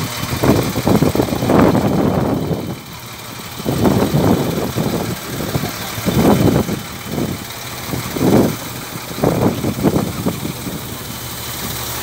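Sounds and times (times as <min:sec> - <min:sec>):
engine running in surges: 0:00.0 - 0:12.0.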